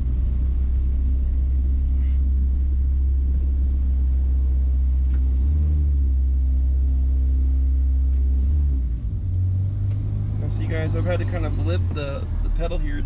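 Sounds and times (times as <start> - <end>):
pickup engine and road drone: 0.0 - 13.0.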